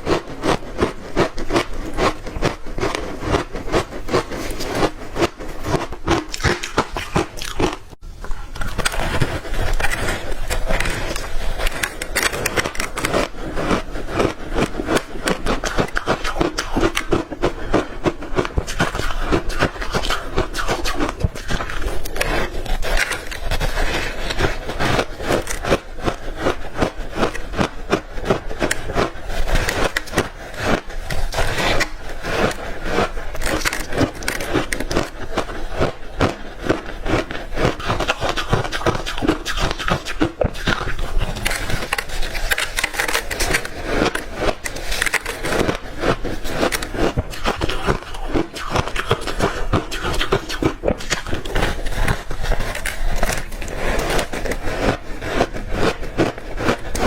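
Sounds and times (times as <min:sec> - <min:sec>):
crunching ice chunks: 0:00.0 - 0:08.0, 0:08.6 - 0:57.0.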